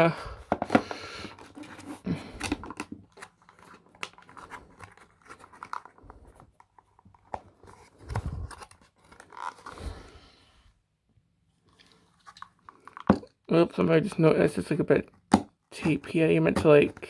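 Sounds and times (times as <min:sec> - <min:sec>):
toy packaging being handled: 0:00.0 - 0:10.2, 0:11.8 - 0:15.1, 0:15.7 - 0:17.0.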